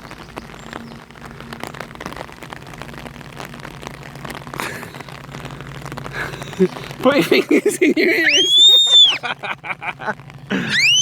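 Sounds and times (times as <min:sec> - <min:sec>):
rain tapping on umbrella: 0:00.0 - 0:11.0.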